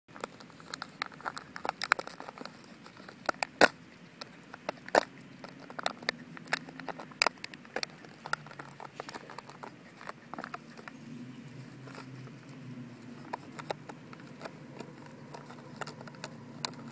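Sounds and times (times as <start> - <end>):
dog chewing plastic bottle: 0.1 - 16.9.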